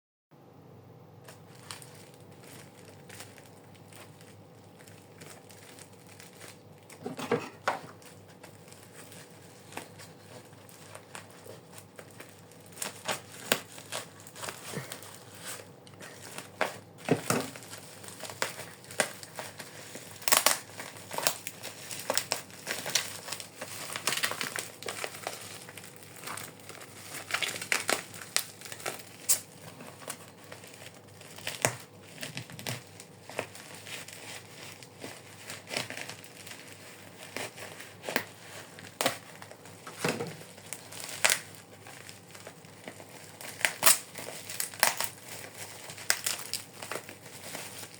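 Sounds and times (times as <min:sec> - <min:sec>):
packaging crinkling and crackling: 0:01.2 - 0:47.9.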